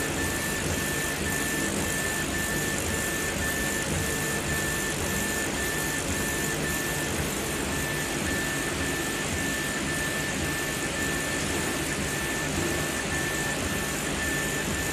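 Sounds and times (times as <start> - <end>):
high whine of laser head: 0.0 - 14.9
laser engraver hum and air rush: 0.0 - 14.9.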